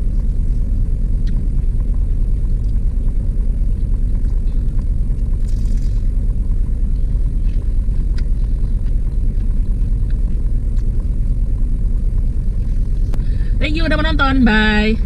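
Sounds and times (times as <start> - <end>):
car idling rumble: 0.0 - 15.0.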